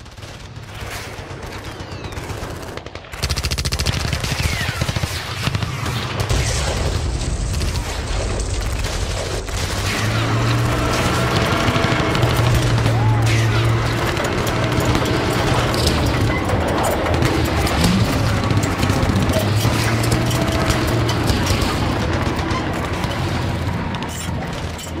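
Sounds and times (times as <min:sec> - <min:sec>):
machine-gun bursts: 0:00.0 - 0:05.6, 0:07.6 - 0:25.0.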